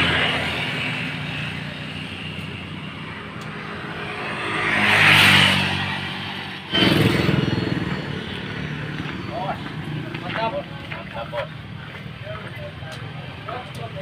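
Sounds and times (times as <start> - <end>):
vehicle passing by: 0.0 - 13.6
rough loud engine noise: 0.0 - 14.0.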